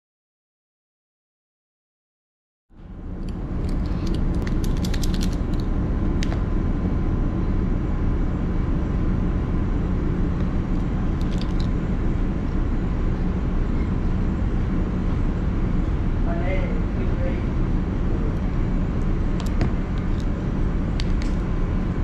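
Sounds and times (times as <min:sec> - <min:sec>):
ship machinery drone: 0:02.7 - 0:22.0.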